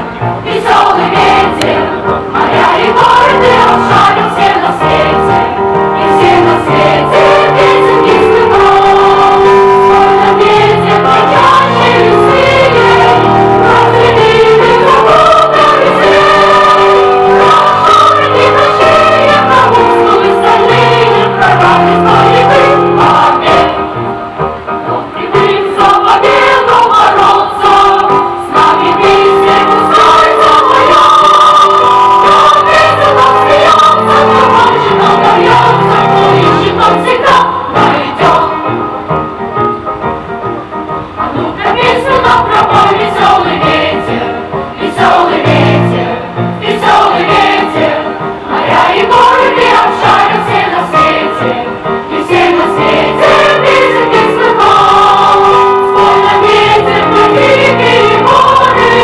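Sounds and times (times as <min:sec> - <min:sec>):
choir singing with instruments: 0:00.0 - 0:59.0.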